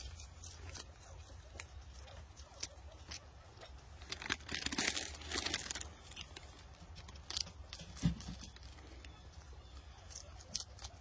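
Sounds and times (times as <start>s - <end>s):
leaf tearing and rustling: 0.0s - 11.0s.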